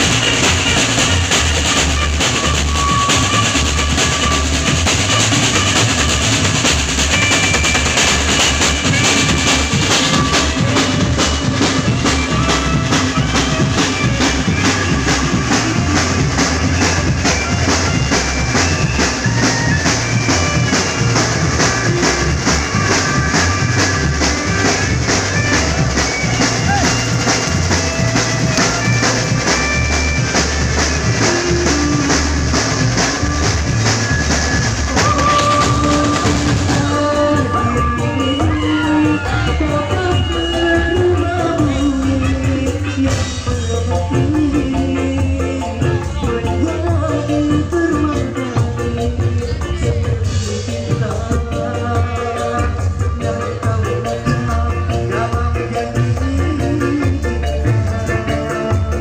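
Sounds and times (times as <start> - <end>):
drum kit beat: 0.0 - 59.0
instrumental pop band: 0.0 - 59.0.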